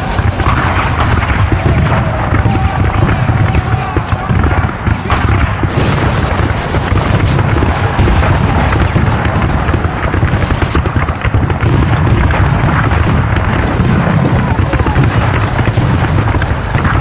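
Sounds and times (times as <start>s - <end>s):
explosion booms: 0.0s - 17.0s
gunfire: 0.0s - 17.0s
low rumble: 0.0s - 17.0s.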